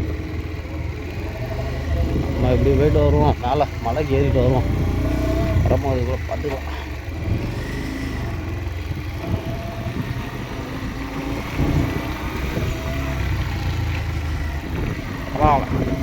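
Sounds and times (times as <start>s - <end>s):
constant low rumble: 0.0s - 16.0s
motorcycle engine running: 0.0s - 16.0s.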